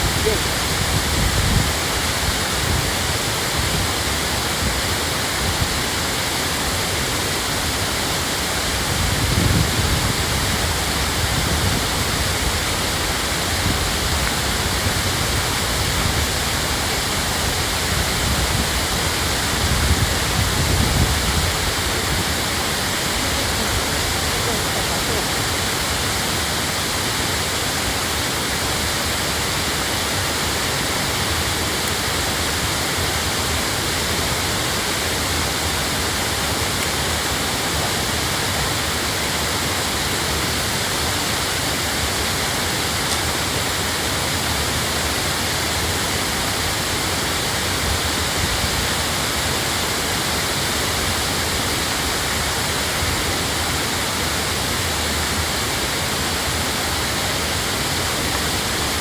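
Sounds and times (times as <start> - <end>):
waterfall pouring: 0.0 - 59.0.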